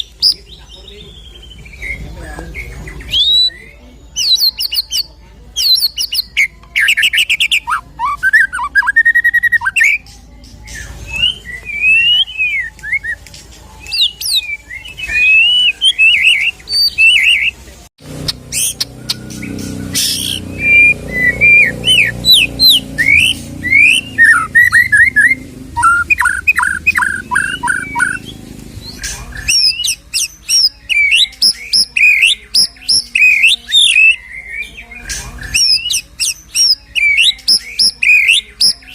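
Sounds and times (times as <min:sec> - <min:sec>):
songbird singing whistled phrases: 0:00.0 - 0:17.6, 0:18.2 - 0:38.9.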